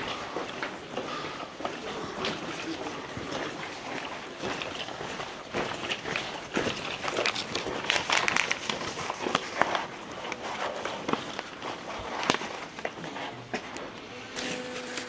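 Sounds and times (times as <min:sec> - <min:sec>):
footsteps on stone paving: 0:00.0 - 0:14.1.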